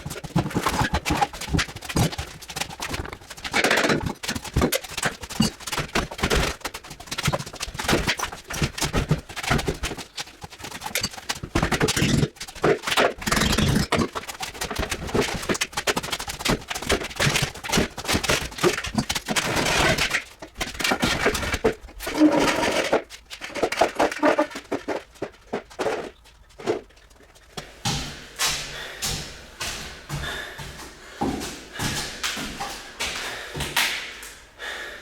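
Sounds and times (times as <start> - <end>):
knocks and clatter of hand work: 0.0 - 34.1.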